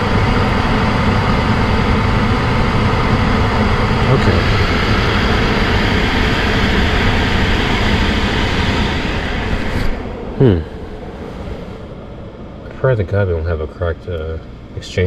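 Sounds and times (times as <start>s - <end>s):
furnace blower running: 0.0s - 15.0s.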